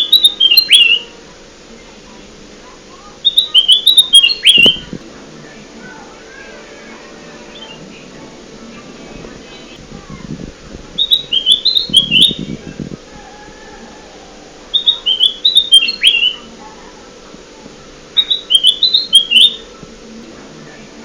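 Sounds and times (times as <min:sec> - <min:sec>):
bulbul singing: 0:00.0 - 0:21.0.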